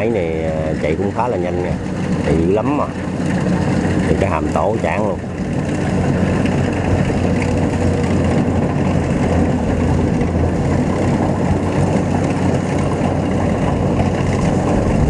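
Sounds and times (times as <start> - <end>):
combine harvester diesel engine drone: 0.0 - 15.0.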